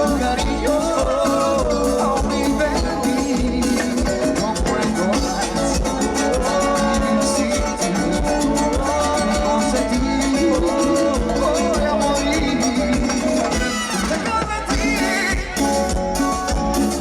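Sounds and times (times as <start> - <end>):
driving percussion beat: 0.0 - 17.0
latin dance band instrumental: 0.0 - 17.0.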